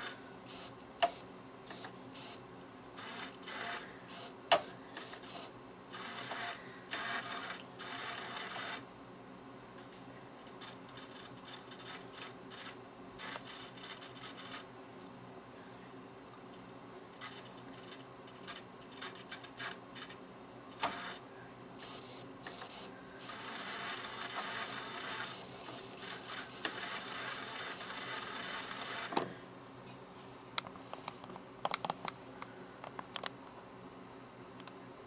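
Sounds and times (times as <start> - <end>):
steady buzzing whir: 0.0 - 33.4.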